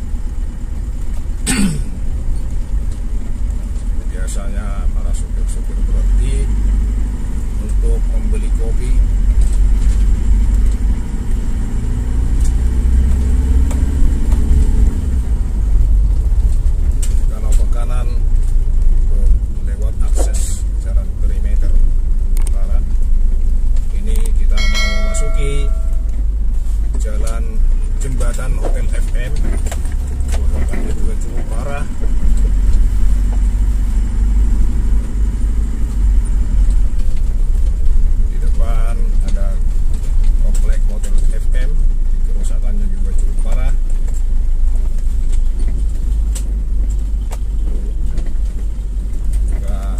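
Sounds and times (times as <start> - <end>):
engine and tyres rumbling: 0.0 - 49.9.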